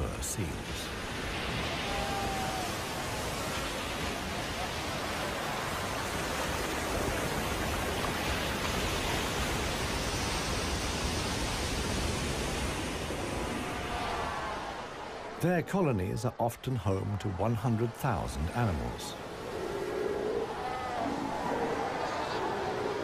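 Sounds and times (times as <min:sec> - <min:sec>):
sea surf rushing: 0:00.0 - 0:23.0.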